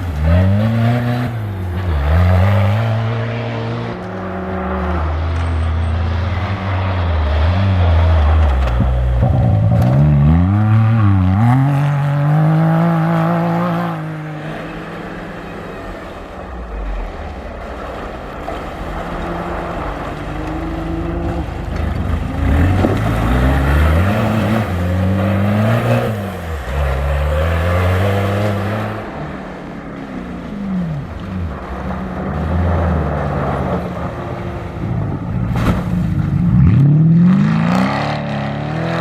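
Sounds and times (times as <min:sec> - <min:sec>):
engines revving hard: 0:00.0 - 0:39.0.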